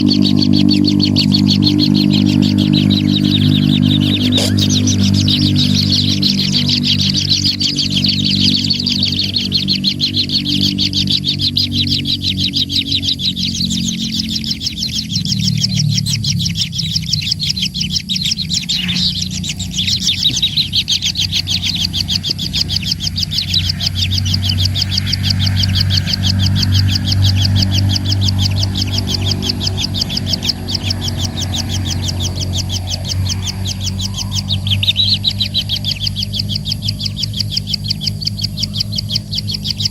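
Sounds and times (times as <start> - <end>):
low steady hum: 0.0 - 39.9
small bird chirping: 0.0 - 39.9.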